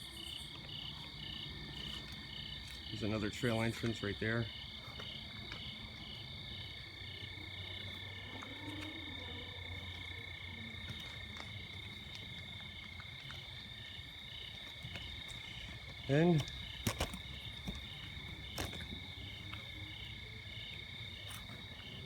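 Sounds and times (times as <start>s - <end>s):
frogs pulsing call: 0.0s - 22.0s.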